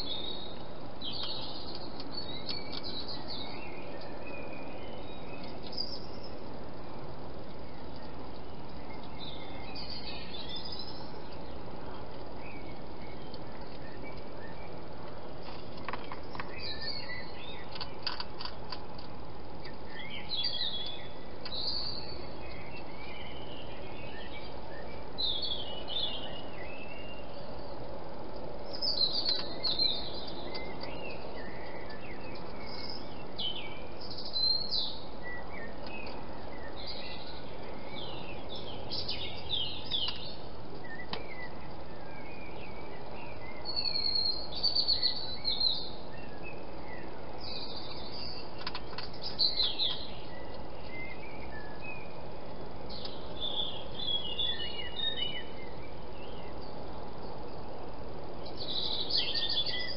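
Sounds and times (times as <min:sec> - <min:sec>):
songbirds chirping and trilling: 0:00.0 - 0:59.9
steady background hiss: 0:00.0 - 0:59.9.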